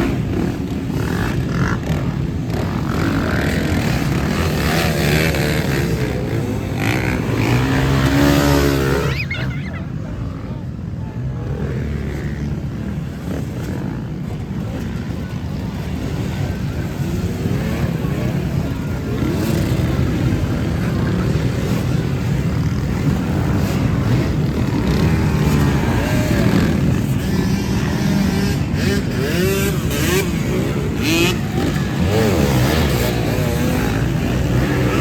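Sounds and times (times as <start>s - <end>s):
motorcycle engines revving: 0.0s - 35.0s.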